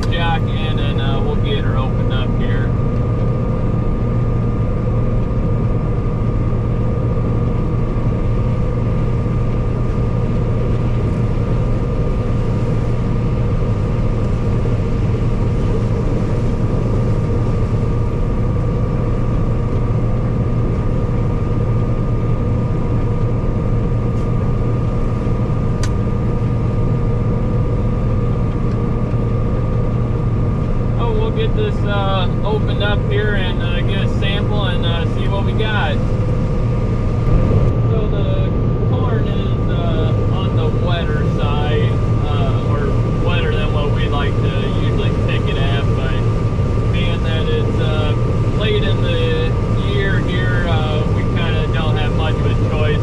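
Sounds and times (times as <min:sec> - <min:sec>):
combine harvester engine drone: 0:00.0 - 0:53.0
whining threshing machinery: 0:00.0 - 0:53.0.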